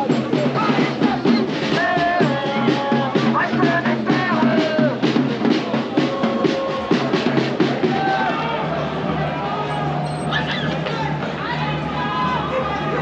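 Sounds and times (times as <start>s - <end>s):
music with steady drumbeat: 0.0s - 12.3s
voices: 0.0s - 13.0s.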